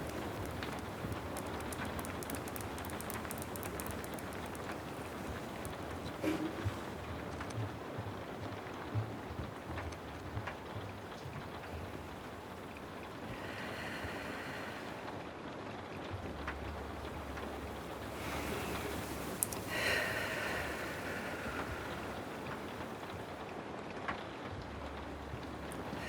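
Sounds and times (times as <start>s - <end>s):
small ticks: 0.0s - 15.0s, 16.1s - 23.4s, 24.6s - 26.0s
steady rain falling: 0.0s - 15.2s, 15.9s - 26.0s.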